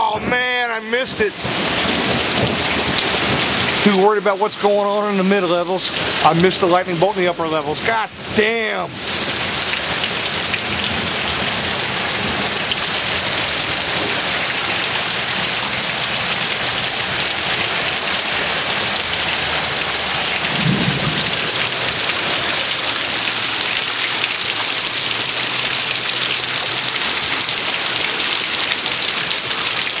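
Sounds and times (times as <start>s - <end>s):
heavy rain on roof and concrete: 0.0s - 30.0s.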